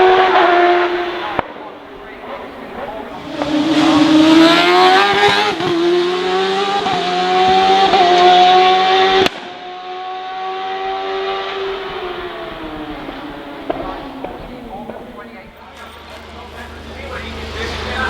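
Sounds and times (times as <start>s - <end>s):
quieter engine note falling: 0.0s - 18.0s
race car engine at high revs: 0.0s - 18.0s.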